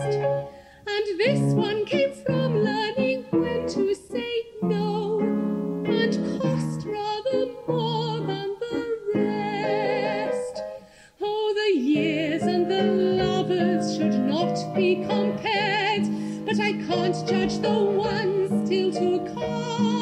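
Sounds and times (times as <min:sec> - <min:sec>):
piano accompaniment: 0:00.0 - 0:10.9, 0:11.8 - 0:20.0
woman singing operatically: 0:00.0 - 0:20.0.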